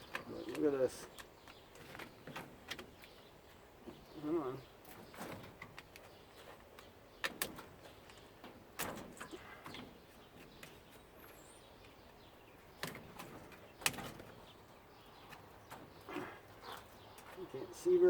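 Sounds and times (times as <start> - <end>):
faint bird chirp: 0.0 - 8.5, 9.1 - 18.0.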